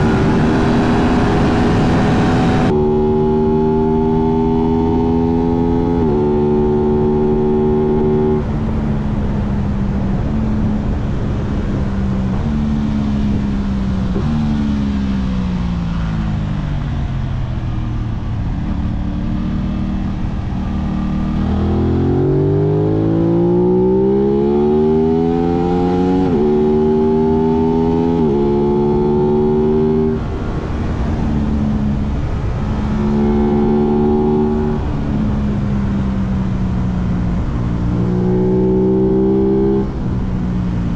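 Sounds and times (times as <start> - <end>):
motorcycle engine revving and shifting: 0.0 - 40.9.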